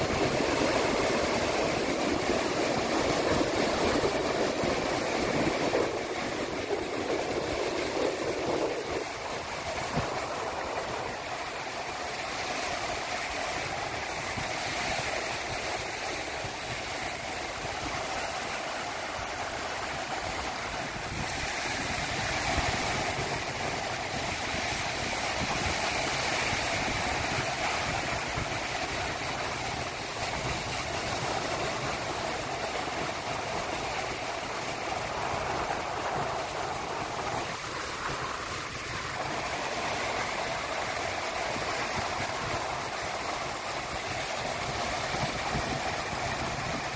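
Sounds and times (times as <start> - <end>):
sea waves washing in: 0.0 - 46.9
wind: 0.0 - 46.9.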